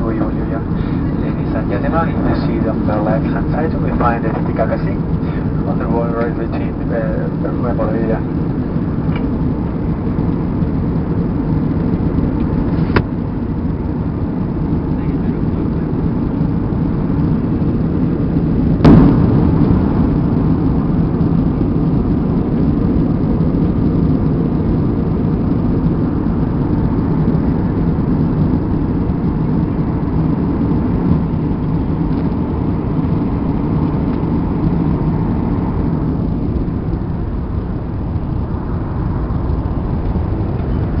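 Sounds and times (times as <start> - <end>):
faint steady hum: 0.0 - 41.0
jet engines and airflow rumble: 0.0 - 41.0.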